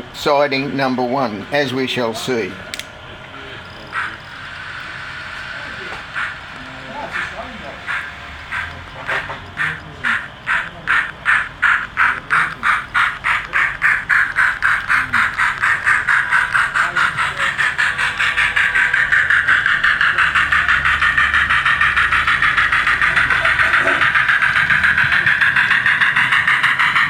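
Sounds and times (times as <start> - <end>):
model locomotive chuffing: 0.0 - 27.0
steady whine: 0.0 - 27.0.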